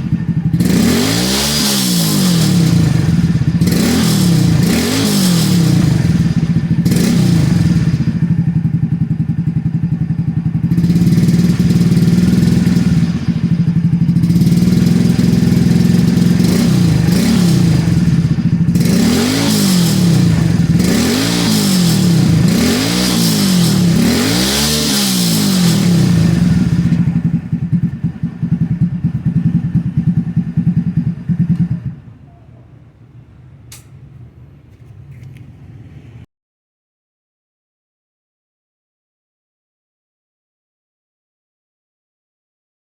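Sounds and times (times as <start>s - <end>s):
motorcycle engine idling and revving: 0.0s - 36.2s.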